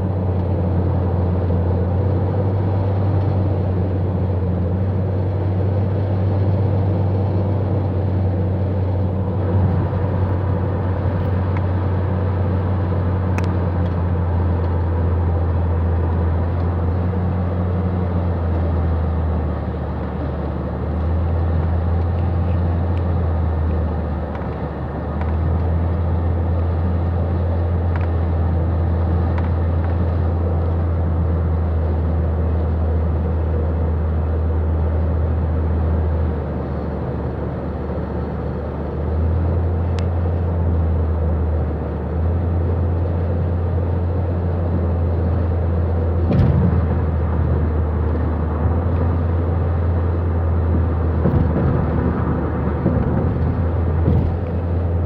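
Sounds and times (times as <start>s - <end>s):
car road noise drone: 0.0s - 55.0s.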